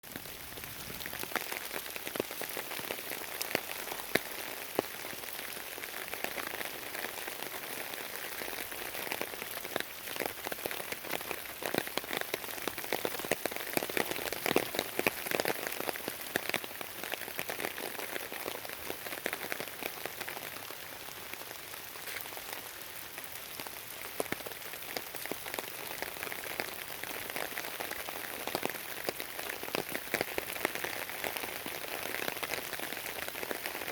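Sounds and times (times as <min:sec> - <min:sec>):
rain pattering: 0:00.0 - 0:33.9.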